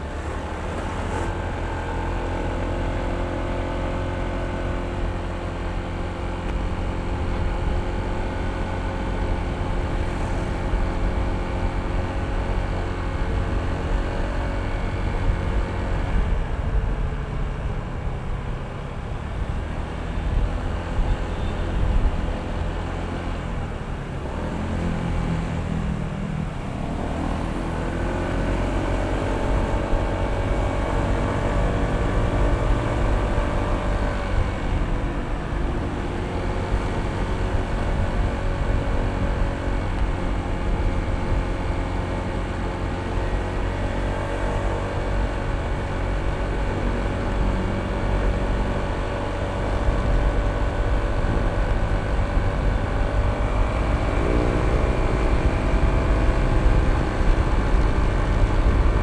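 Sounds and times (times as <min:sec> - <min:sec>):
scooter engine running: 0:00.0 - 0:17.4, 0:18.8 - 0:59.0
low wind rumble: 0:00.0 - 0:59.0.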